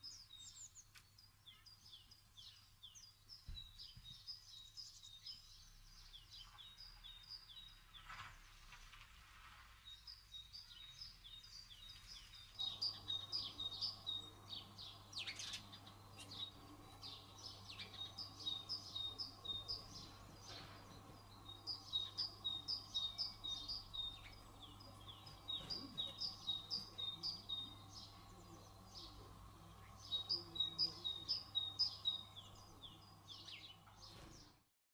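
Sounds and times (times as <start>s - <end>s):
sparrows chirping: 0.0s - 34.7s.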